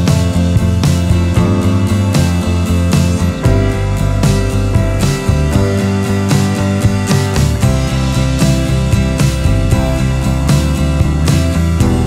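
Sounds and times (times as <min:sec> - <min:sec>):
band music with guitar and drums: 0:00.0 - 0:12.0.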